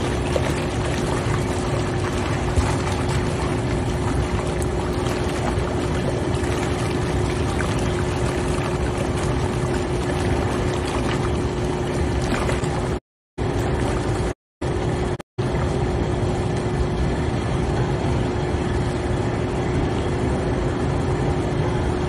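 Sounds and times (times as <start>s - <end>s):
pump humming: 0.0s - 22.0s
water churning and bubbling: 0.0s - 22.0s.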